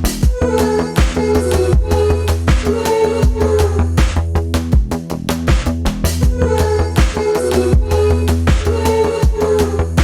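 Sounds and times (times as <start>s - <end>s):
electronic music with driving beat: 0.0s - 10.0s.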